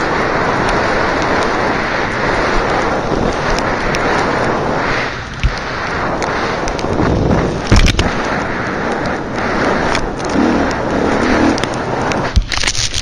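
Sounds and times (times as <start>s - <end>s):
dirt bike engine under throttle: 0.0s - 12.9s
wind rushing: 0.0s - 13.0s.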